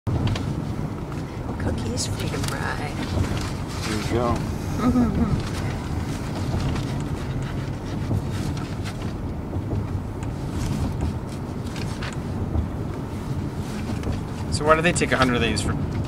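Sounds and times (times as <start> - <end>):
car cabin road rumble: 0.1 - 16.0.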